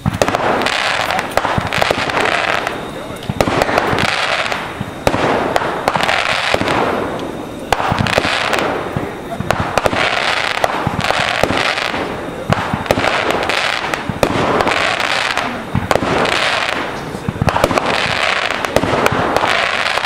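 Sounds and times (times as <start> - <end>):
fireworks bangs and pops: 0.0 - 20.0
fireworks hissing crackle: 0.0 - 20.0.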